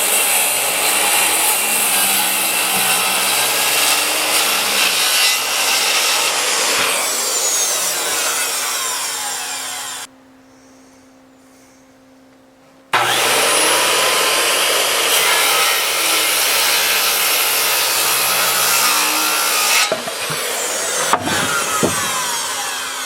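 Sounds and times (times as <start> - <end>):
sawing wood: 0.0 - 10.1, 13.0 - 23.0.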